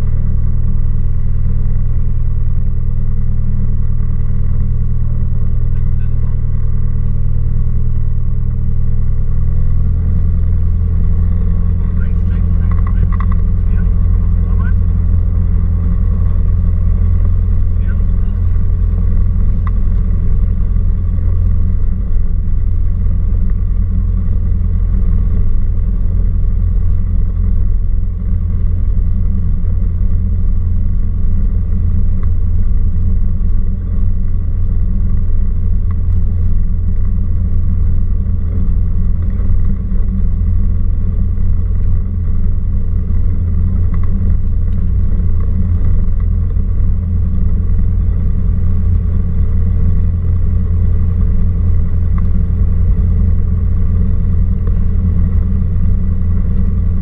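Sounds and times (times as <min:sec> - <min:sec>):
small plane engine droning: 0:00.0 - 0:57.0.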